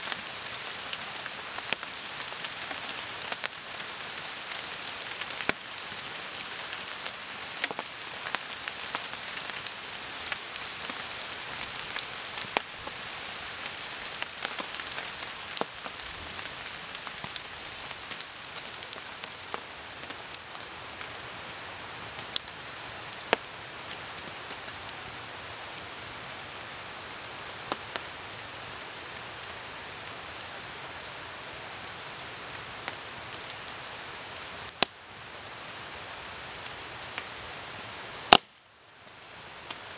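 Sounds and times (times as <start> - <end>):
campfire crackling: 0.0 - 39.9
rain on a tarp: 0.0 - 39.9.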